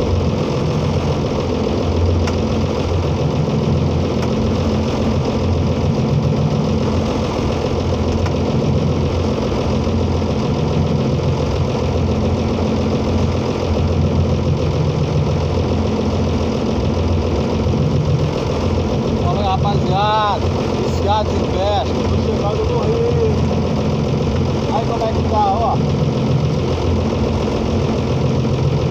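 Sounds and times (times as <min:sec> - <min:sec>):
motorboat engine drone: 0:00.0 - 0:28.9.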